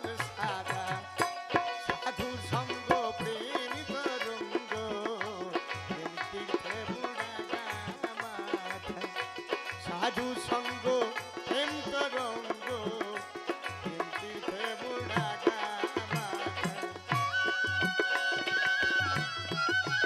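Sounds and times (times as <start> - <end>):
folk melody with sliding notes: 0.0 - 20.0
hand drum rhythm: 0.0 - 20.0.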